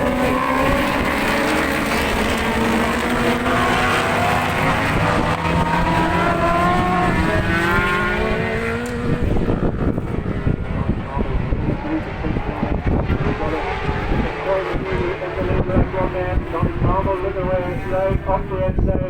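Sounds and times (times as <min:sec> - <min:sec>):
racing motorcycles at full throttle: 0:00.0 - 0:19.0.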